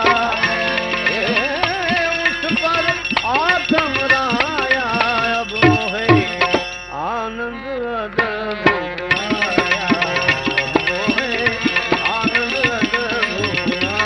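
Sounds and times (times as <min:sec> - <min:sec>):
hand drum rhythm: 0:00.0 - 0:06.7, 0:08.7 - 0:14.0.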